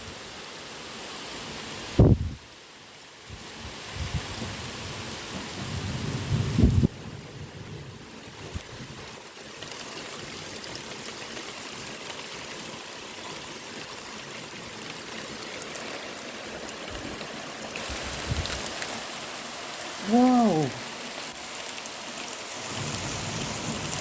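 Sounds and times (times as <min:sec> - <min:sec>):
heavy rain falling: 0:03.0 - 0:24.0.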